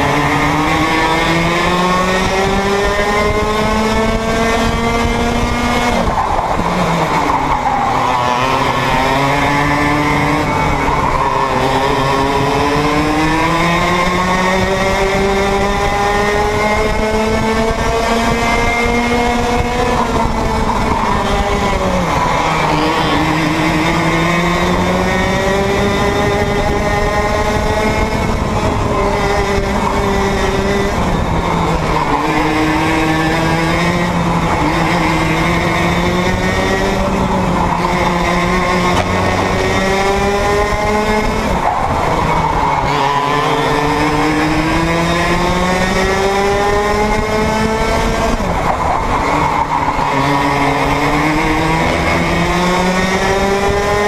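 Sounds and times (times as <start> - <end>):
two-stroke kart engine racing: 0.0 - 54.0.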